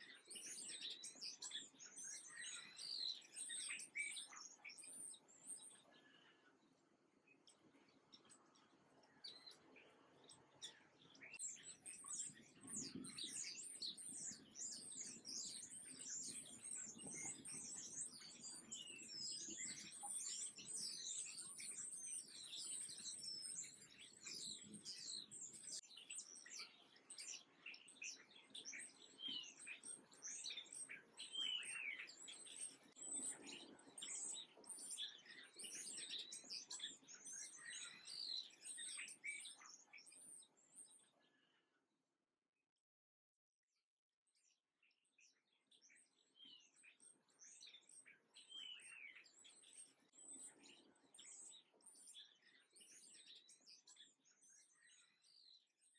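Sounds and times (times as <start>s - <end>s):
songbirds chirping: 0.0s - 41.8s, 44.4s - 55.9s.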